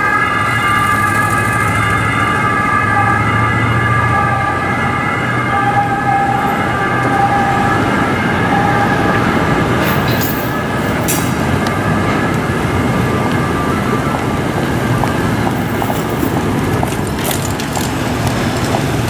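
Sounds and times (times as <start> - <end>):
traffic rumble on cobbles: 0.0 - 19.0.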